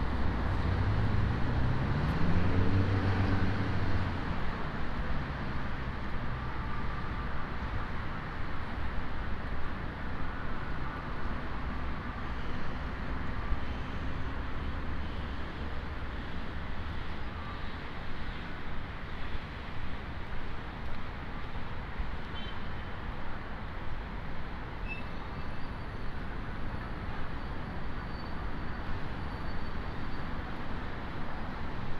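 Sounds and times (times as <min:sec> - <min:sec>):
road traffic: 0:00.0 - 0:31.9.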